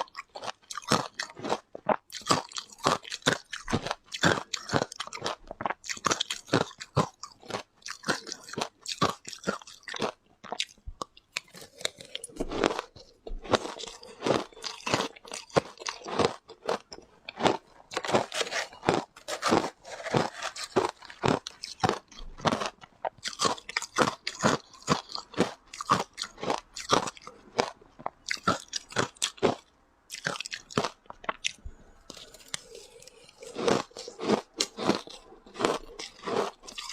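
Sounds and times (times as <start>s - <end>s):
chewing ice crunches: 0.0s - 36.9s.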